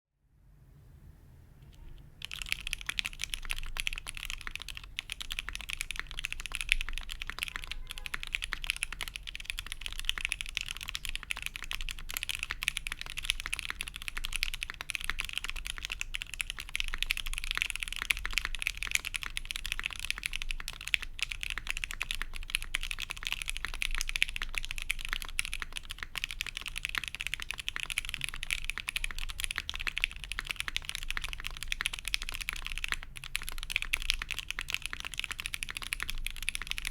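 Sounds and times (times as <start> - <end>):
fast typing on mechanical keyboard: 1.9 - 36.9.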